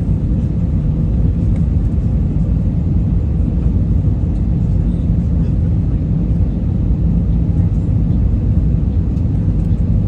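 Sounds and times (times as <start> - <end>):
jet engines and airflow rumble: 0.0 - 10.0.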